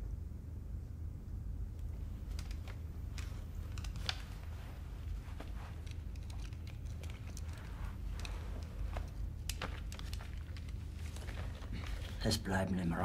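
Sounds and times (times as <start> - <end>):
low room hum: 0.0 - 13.0
glasses clicking and rustling: 2.2 - 12.9.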